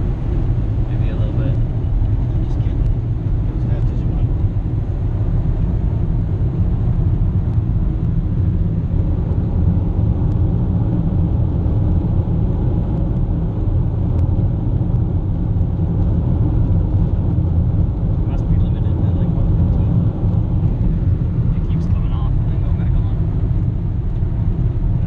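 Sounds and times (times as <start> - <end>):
car cabin road noise: 0.0 - 25.0
car engine: 0.0 - 25.0.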